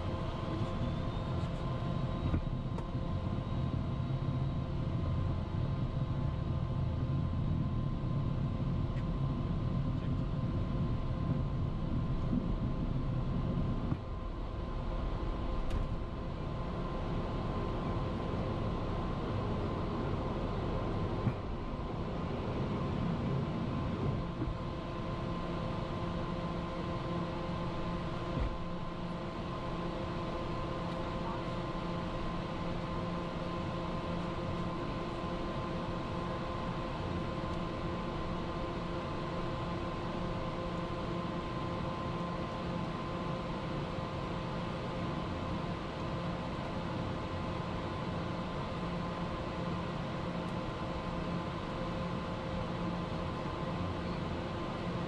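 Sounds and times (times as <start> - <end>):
jet engines and airflow hum: 0.0 - 55.0.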